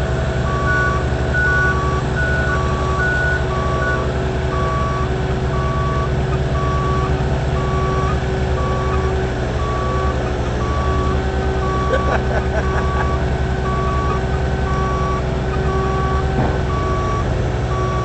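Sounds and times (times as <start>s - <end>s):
diesel engine running: 0.0s - 18.0s
backup alarm beeping: 0.5s - 18.0s.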